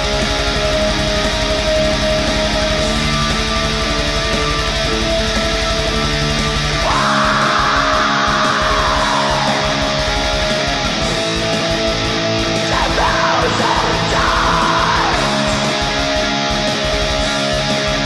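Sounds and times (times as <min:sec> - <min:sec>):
distorted electric guitars: 0:00.0 - 0:18.0
drums: 0:00.0 - 0:18.0
harsh noisy layer: 0:00.0 - 0:18.0.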